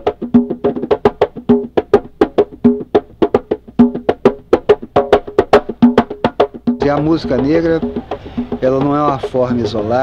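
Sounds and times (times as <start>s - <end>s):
hand drum struck rapidly: 0.0s - 10.0s.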